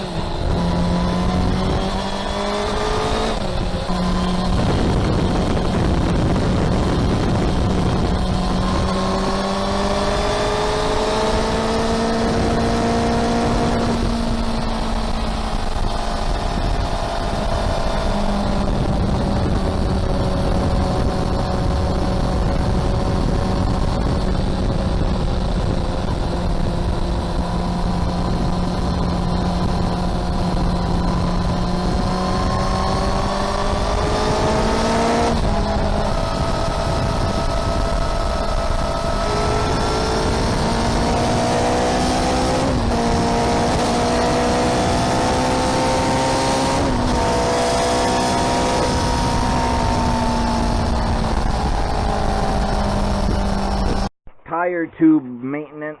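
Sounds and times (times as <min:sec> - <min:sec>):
vehicle engine revving: 0:00.0 - 0:54.1.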